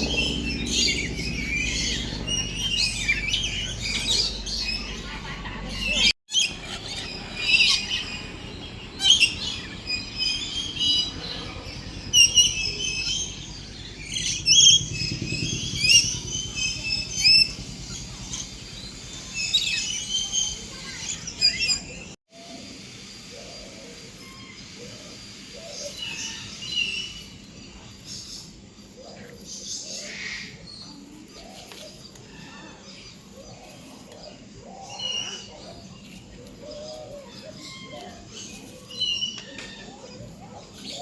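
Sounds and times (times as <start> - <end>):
birds chirping and trilling: 0.0 - 41.0
low background hum: 0.0 - 41.0.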